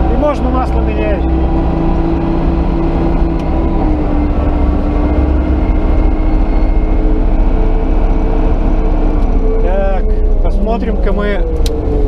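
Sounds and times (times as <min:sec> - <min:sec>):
loader diesel engine droning: 0:00.0 - 0:12.0.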